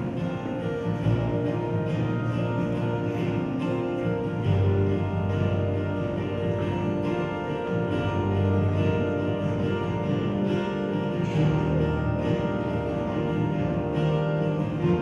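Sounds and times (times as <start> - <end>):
live band with strummed guitars: 0.0 - 15.0.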